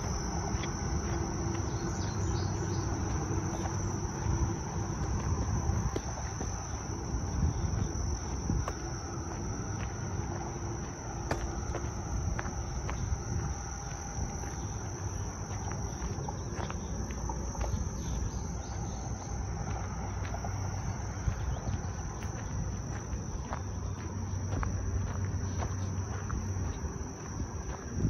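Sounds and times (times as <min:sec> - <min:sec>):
crickets chirring: 0:00.0 - 0:28.0
footsteps clicking: 0:00.0 - 0:28.0
low rumble: 0:00.0 - 0:28.0.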